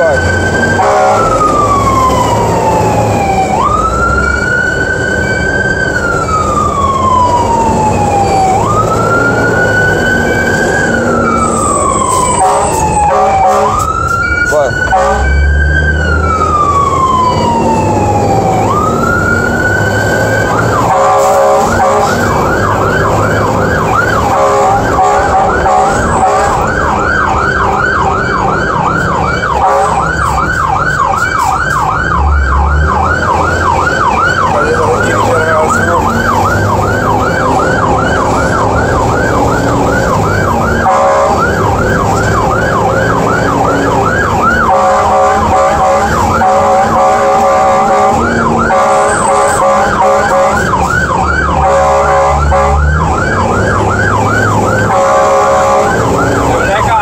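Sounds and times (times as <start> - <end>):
fire truck siren wailing and yelping: 0.0 - 57.0.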